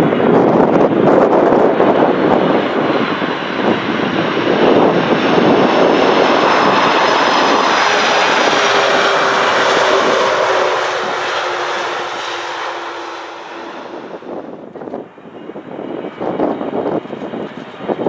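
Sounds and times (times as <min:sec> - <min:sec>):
jet engines roaring on landing: 0:00.0 - 0:18.0
steady engine whine: 0:00.0 - 0:18.0
wind buffeting microphone: 0:00.0 - 0:18.0.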